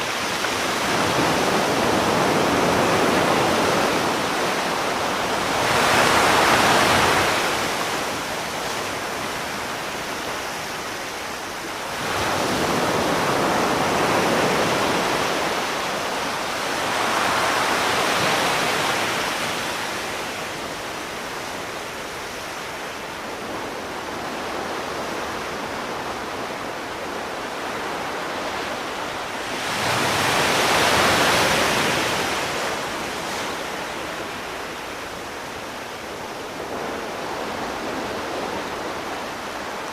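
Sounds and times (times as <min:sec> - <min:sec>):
sea waves breaking ashore: 0:00.0 - 0:39.9.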